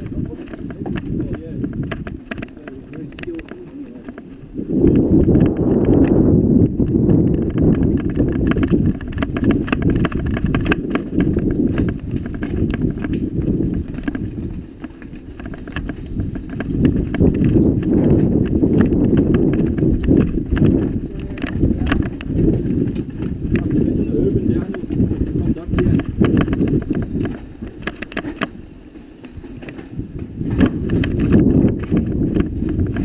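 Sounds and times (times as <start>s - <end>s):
bike rumbling over stones: 0.0s - 33.0s
bike wheels knocking on stones: 0.0s - 33.0s.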